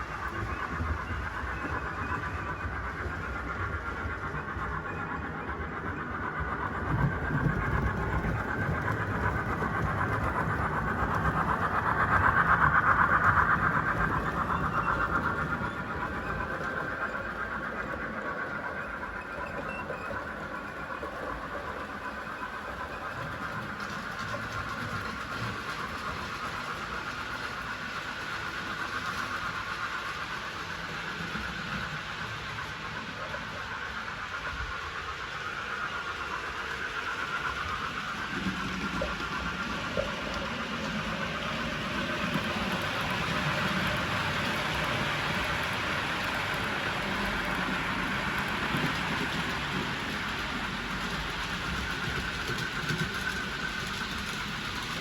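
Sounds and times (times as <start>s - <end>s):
model train motor whine: 0.0s - 55.0s.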